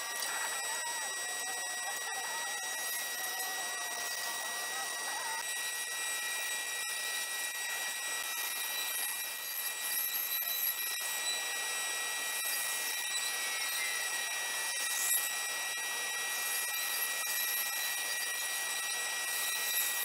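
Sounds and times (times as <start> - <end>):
bandsaw cutting acrylic: 0.0 - 20.0.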